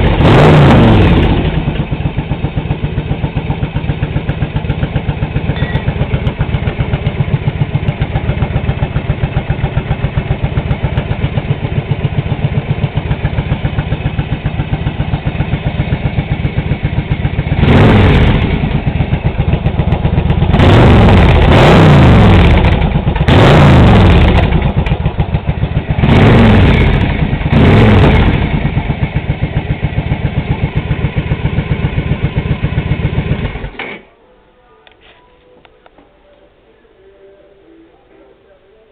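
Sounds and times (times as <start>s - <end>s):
motorcycle engine idling and revving: 0.0s - 34.0s.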